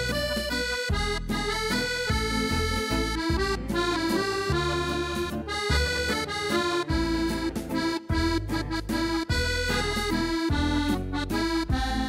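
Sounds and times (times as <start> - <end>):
accordion melody: 0.0 - 12.0
bass and chord accompaniment: 0.0 - 12.0.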